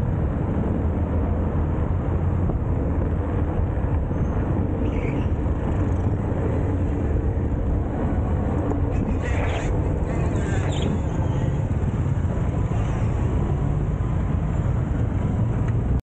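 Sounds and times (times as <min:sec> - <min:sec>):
bike rolling on street: 0:00.0 - 0:16.0
car traffic: 0:00.0 - 0:16.0.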